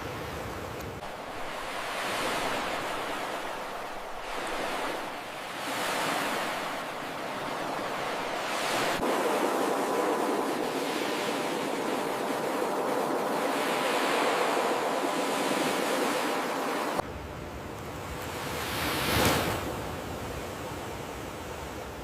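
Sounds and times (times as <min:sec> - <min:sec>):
waves breaking on a beach: 0:00.0 - 0:22.0.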